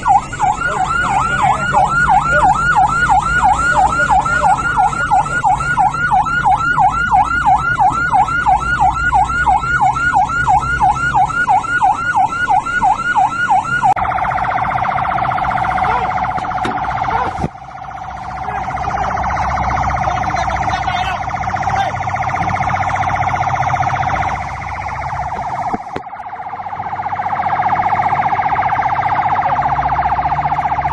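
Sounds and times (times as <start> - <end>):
electronic siren yelping: 0.0 - 30.9.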